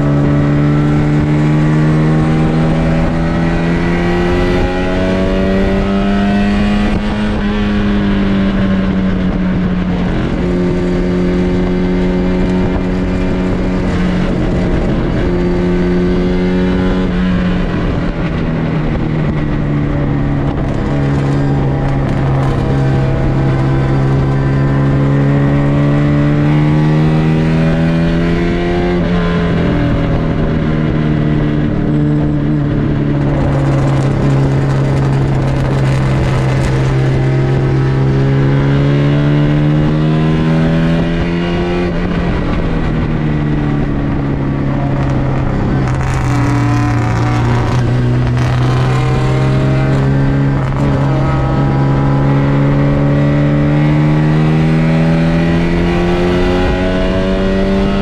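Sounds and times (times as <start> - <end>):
racing car engine under load: 0.0 - 58.0.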